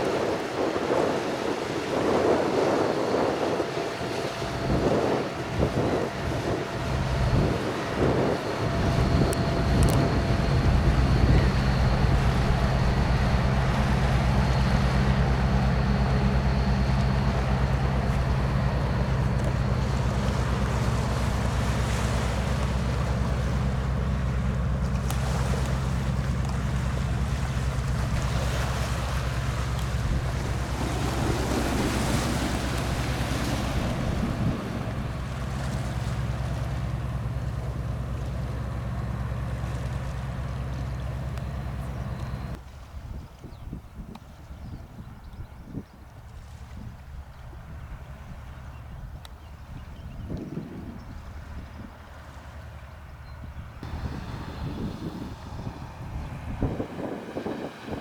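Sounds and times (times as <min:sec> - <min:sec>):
wind on microphone: 0:00.0 - 0:23.7, 0:25.1 - 0:36.1, 0:41.8 - 0:52.2, 0:53.3 - 0:58.0
rushing water: 0:00.0 - 0:42.6, 0:51.9 - 0:58.0
boat engine droning: 0:00.0 - 0:43.1, 0:44.4 - 0:58.0.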